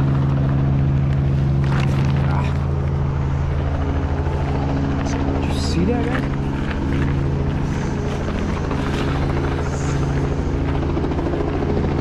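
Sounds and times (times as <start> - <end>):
helicopter drone: 0.0 - 12.0.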